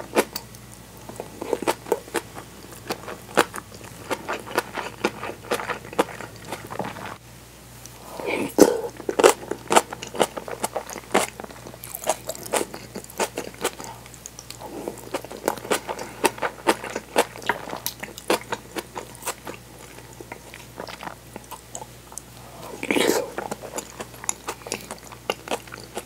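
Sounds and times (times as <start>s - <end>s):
crunchy chewing: 0.1s - 7.2s, 8.6s - 26.0s.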